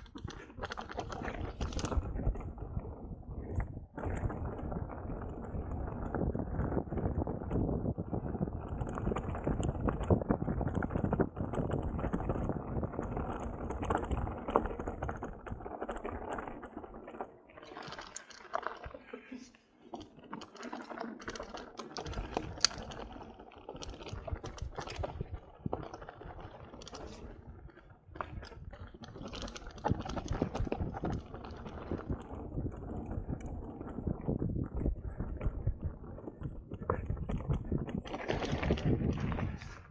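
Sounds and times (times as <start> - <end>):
bike rattling: 0.0 - 19.1, 20.0 - 39.9.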